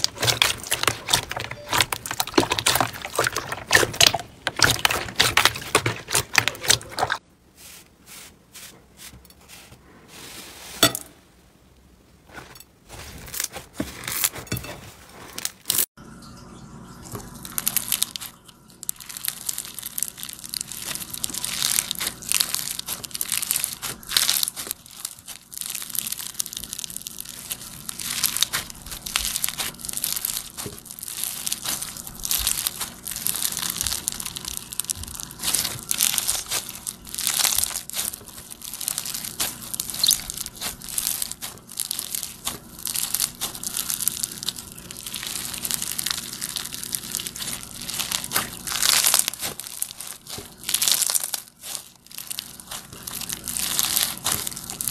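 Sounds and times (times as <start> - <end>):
crunchy slime crackling: 0.0 - 7.2, 17.1 - 54.9.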